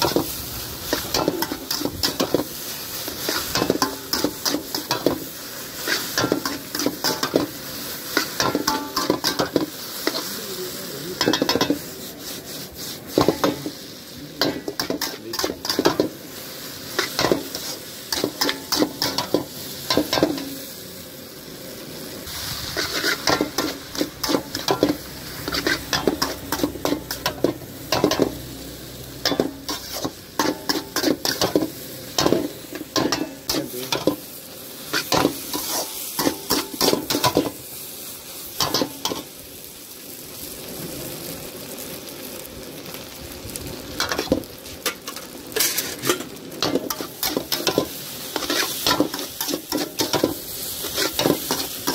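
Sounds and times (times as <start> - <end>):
spatula scraping a wok: 0.0 - 10.4, 11.1 - 20.8, 22.2 - 39.4, 44.0 - 51.9
food sizzling: 0.0 - 51.9.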